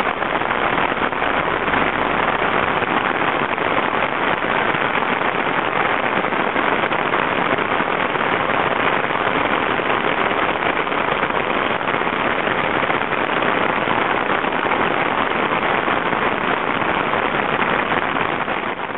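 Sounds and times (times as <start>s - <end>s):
heavy rain on paved street: 0.0s - 18.9s.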